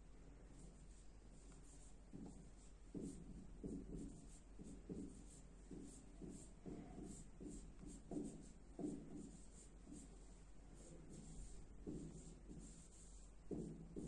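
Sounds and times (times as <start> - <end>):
marker writing on whiteboard: 0.5 - 14.0.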